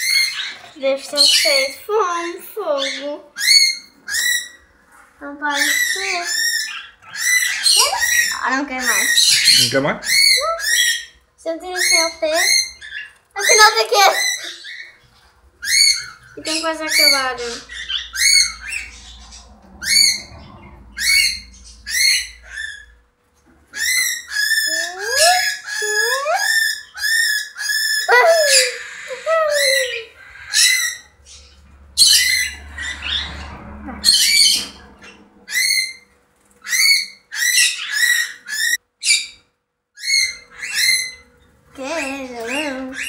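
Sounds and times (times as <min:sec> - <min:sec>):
cage birds chirping: 0:00.0 - 0:43.0.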